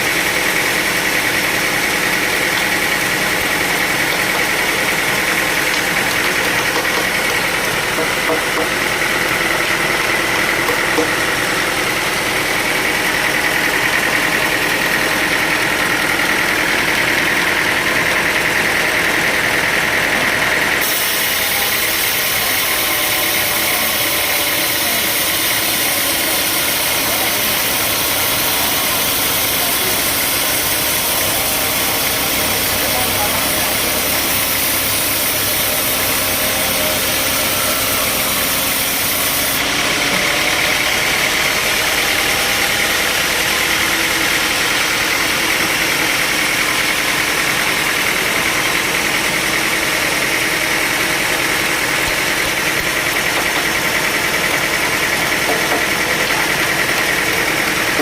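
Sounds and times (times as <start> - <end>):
sawmill saw whining: 0.0 - 58.0.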